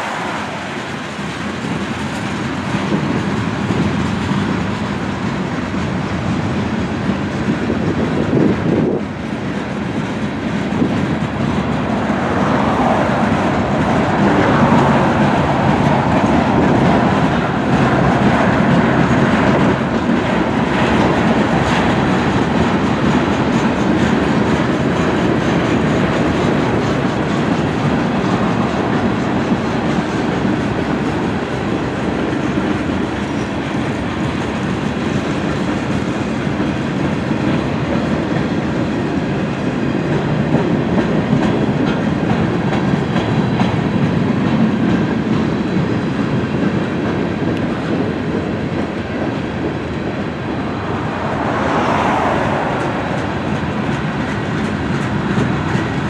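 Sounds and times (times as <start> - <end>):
freight train cars rolling past: 0.0 - 56.0
wheels clicking over rail joints: 0.1 - 56.0.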